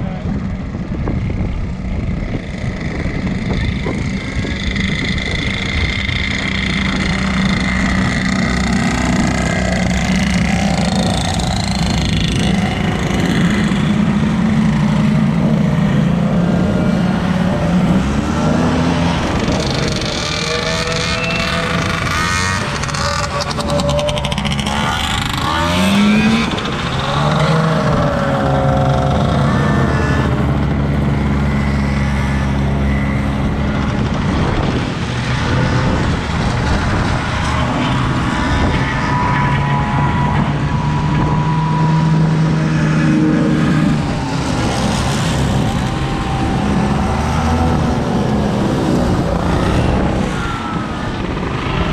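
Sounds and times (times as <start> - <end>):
road traffic: 0.0 - 51.9
snowmobiles passing on wet pavement: 2.6 - 51.9.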